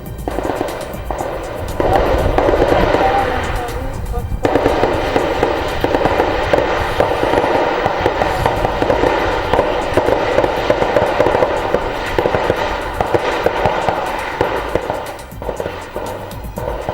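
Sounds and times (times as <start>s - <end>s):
sustained gunfire: 0.0s - 16.9s.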